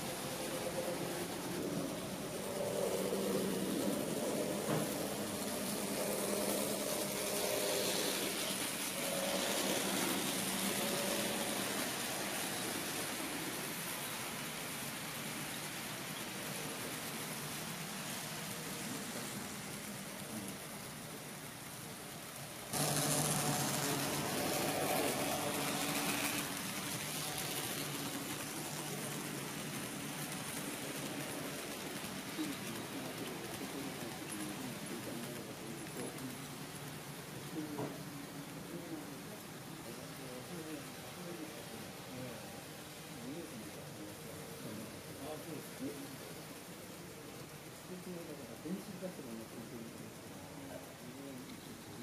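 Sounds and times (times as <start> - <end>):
model train humming: 0.0 - 52.0
wheels rumbling on rails: 0.0 - 52.0.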